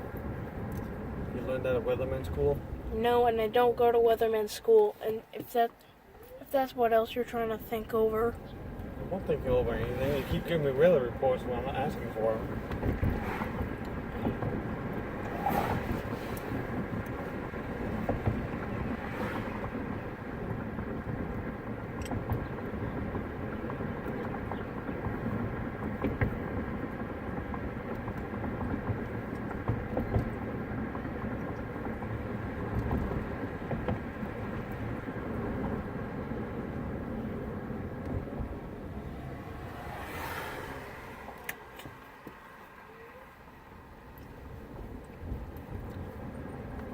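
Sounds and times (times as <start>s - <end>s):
car road and engine noise: 0.0s - 46.9s.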